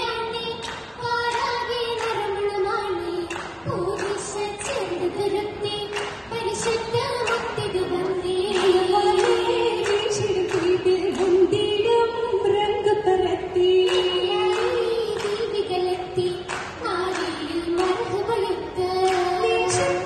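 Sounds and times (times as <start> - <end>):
girls singing in unison: 0.0 - 20.0
hand claps: 0.2 - 11.6, 13.8 - 20.0.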